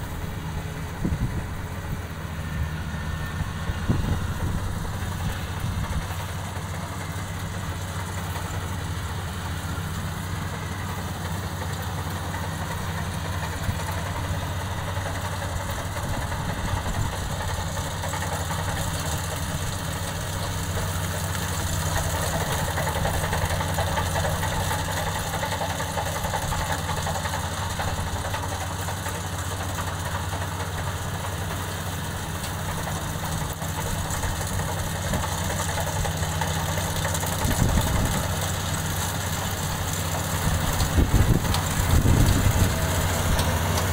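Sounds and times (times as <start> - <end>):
combine harvester engine drone: 0.0 - 43.9
cutting and threshing machinery: 0.0 - 43.9.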